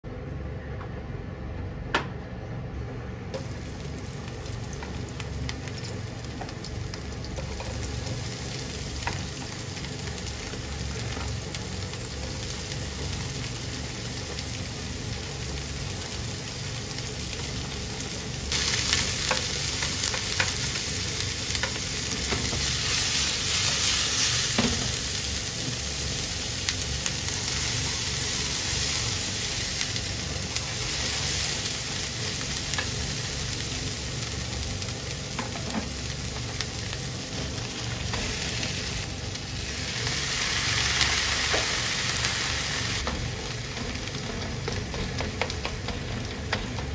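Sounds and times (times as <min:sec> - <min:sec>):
onions sizzling in oil: 0:03.2 - 0:46.9.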